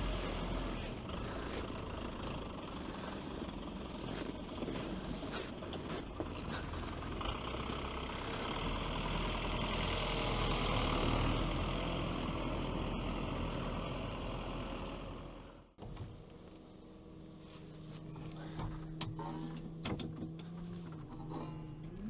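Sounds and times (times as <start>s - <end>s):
diesel engine running: 0.0s - 15.8s, 16.4s - 22.0s.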